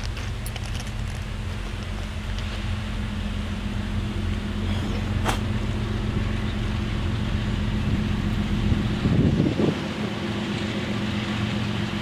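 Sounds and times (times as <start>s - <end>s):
distant locomotive engine drone: 0.0s - 12.0s.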